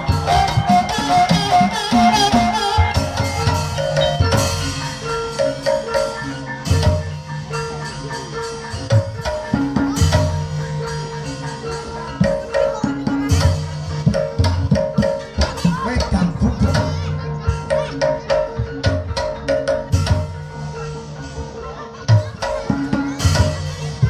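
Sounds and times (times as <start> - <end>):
drum: 0.0 - 24.0
struck mallet instruments melody: 0.0 - 24.0.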